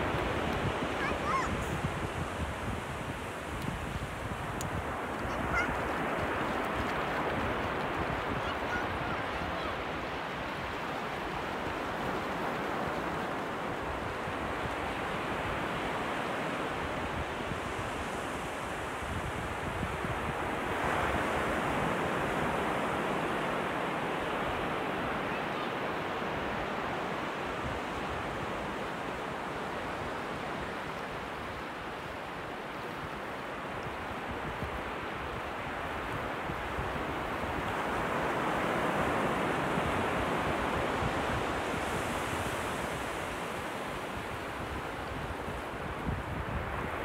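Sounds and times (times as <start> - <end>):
sea surf breaking: 0.0 - 47.0
wind rumbling on microphone: 0.0 - 47.0.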